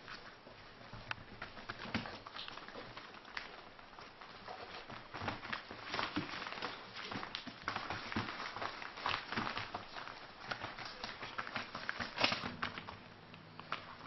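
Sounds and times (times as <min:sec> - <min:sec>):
puppy paws tapping on mat: 0:00.0 - 0:14.0.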